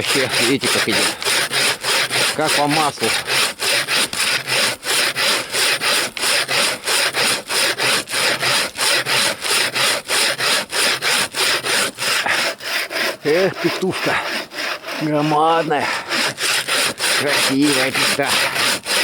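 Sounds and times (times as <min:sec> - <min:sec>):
bow saw cutting log: 0:00.0 - 0:19.0.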